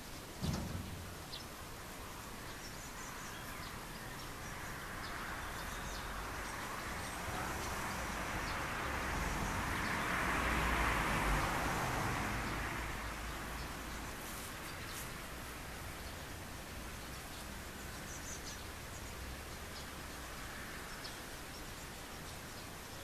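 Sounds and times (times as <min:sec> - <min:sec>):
broad hiss: 0:00.0 - 0:23.0.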